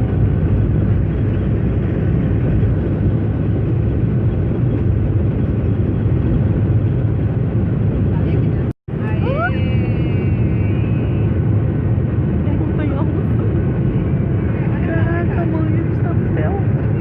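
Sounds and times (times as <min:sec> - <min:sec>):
airliner engines at takeoff: 0:00.0 - 0:17.0.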